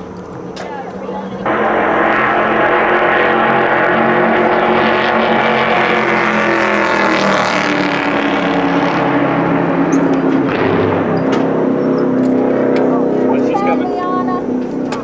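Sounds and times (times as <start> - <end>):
race car engine: 0.0 - 15.0.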